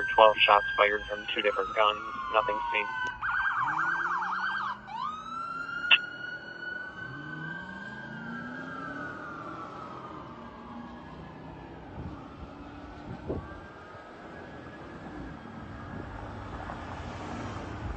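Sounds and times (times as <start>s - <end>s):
fire truck siren: 0.0s - 17.9s.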